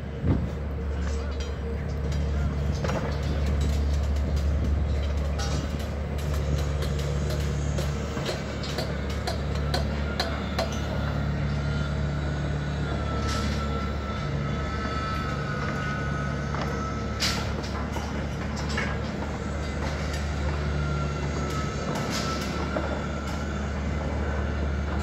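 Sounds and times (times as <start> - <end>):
heavy engine running: 0.0 - 25.0
thin steady whine: 0.7 - 25.0.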